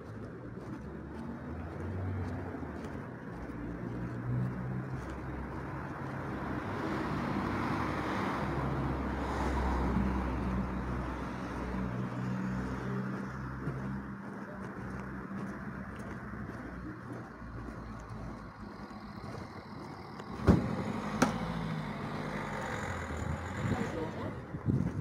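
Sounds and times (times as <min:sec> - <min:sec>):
car passing by: 0:00.6 - 0:25.0.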